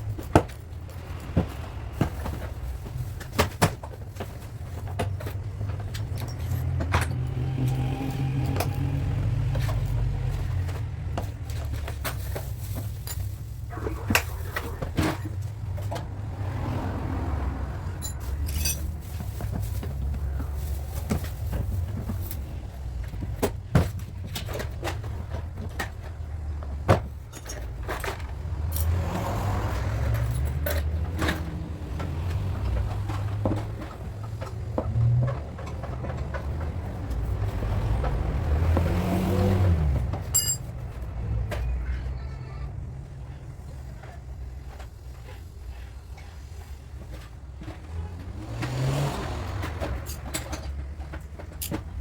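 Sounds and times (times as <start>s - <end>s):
vehicle engine rumbling: 0.0s - 52.0s.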